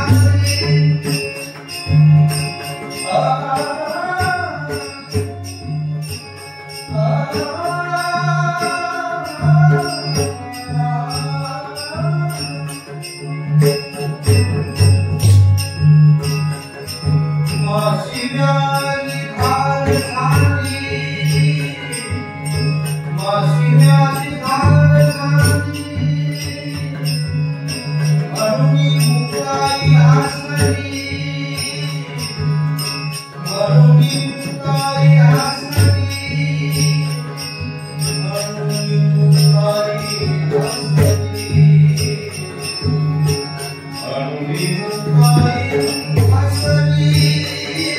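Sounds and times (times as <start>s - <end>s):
hand cymbals clashing: 0.0s - 47.9s.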